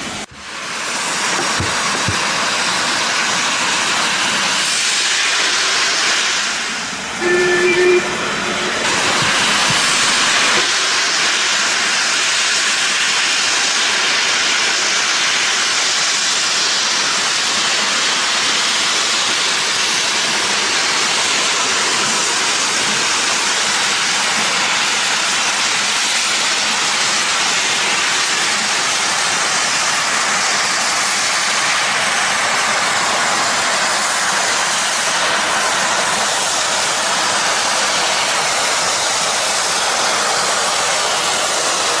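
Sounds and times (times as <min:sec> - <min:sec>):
steam hissing from locomotive: 0:00.0 - 0:42.0.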